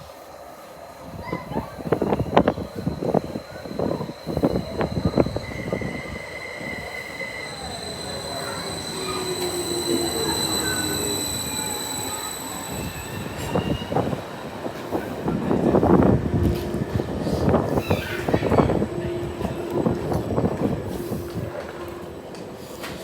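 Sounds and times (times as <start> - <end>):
train wheels squealing on rails: 0.0 - 23.0.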